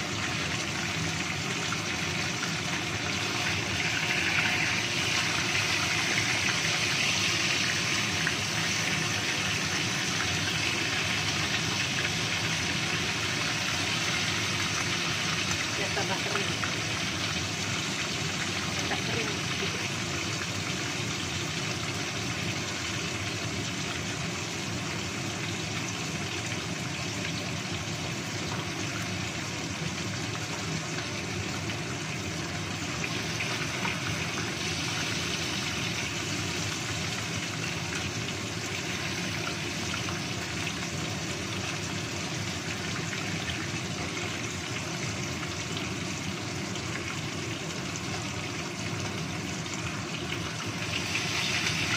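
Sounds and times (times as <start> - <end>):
fish sizzling in hot oil: 0.0 - 51.9.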